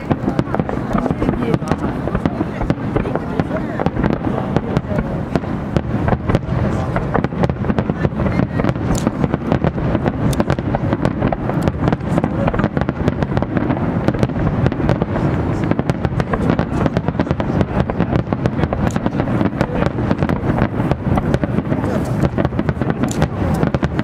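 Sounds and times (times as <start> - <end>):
deep fireworks booms: 0.0 - 24.0
fireworks crackling: 0.0 - 24.0.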